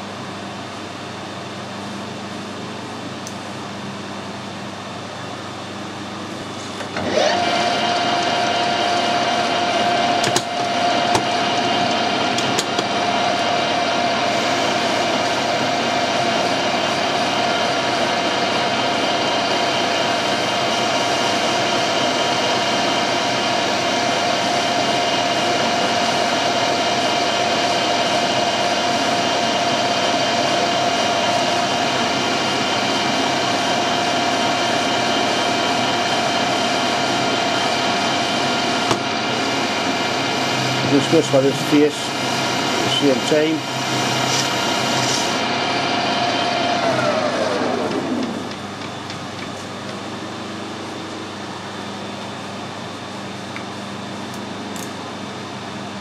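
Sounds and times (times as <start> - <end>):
metal lathe whining: 6.4 - 53.6.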